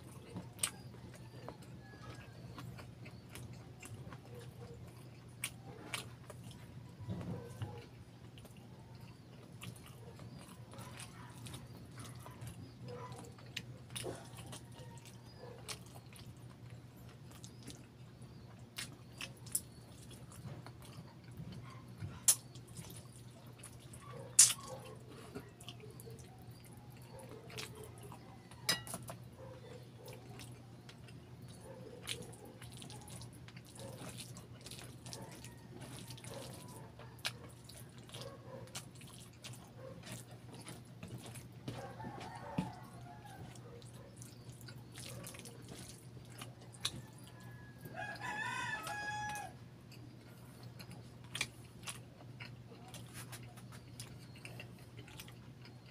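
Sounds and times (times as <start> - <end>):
chewing and lip smacking: 0.0 - 55.9.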